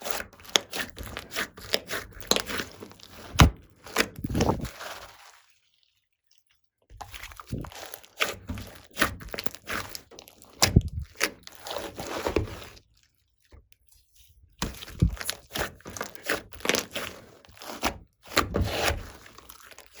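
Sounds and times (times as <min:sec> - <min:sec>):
slime squelching by hand: 0:00.0 - 0:20.0.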